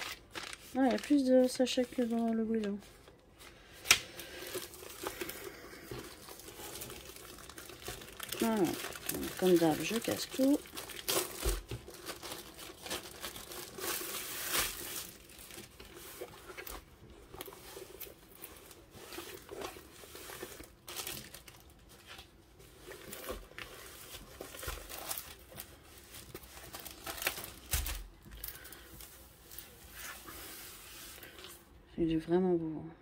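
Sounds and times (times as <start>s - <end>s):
plastic film rustling: 0.0s - 31.7s
plastic sleeve crinkling: 0.0s - 31.7s.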